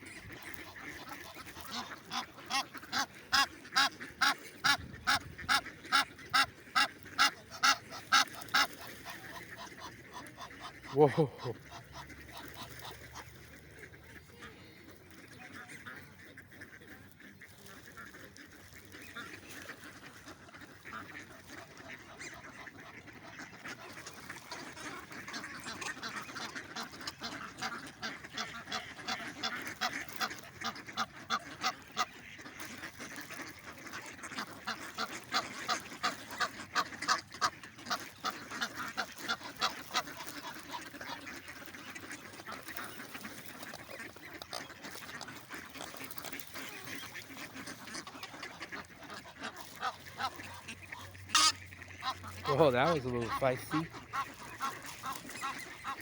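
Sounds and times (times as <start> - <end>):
ducks and geese honking and quacking: 0.0 - 56.0.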